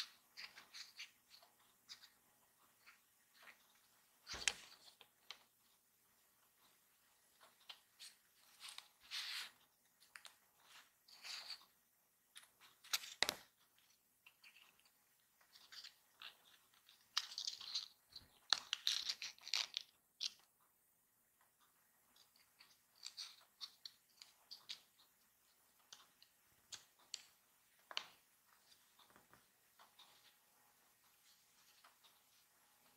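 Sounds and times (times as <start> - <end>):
paper card rustling and crinkling: 0.0 - 2.2, 2.8 - 5.8, 6.6 - 11.7, 12.4 - 20.4, 22.1 - 32.9.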